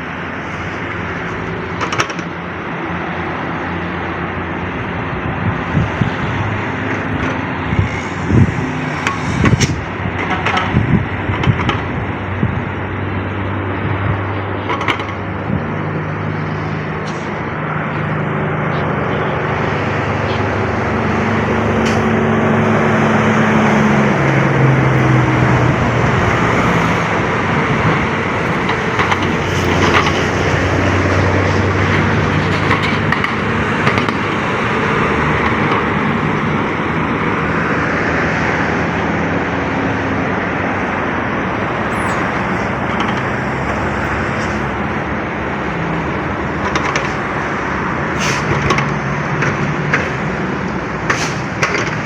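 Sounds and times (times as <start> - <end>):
diesel truck engine running: 0.0 - 52.0
road noise: 0.0 - 52.0.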